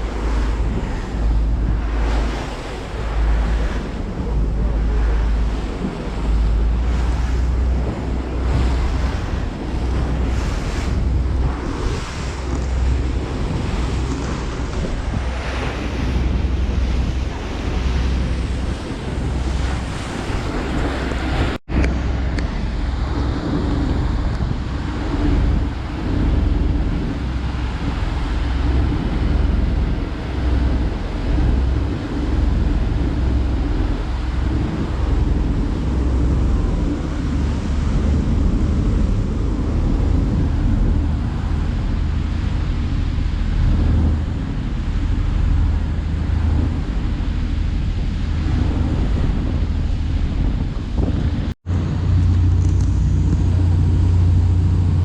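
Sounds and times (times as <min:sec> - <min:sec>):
boat engine hum: 0:00.0 - 0:55.0
water rushing past: 0:00.0 - 0:55.0
wind buffeting microphone: 0:00.0 - 0:55.0.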